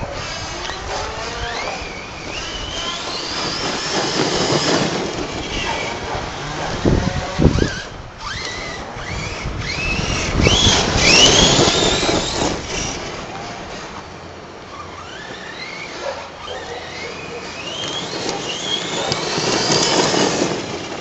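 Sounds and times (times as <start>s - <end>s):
rc car motor whining: 0.0s - 21.0s.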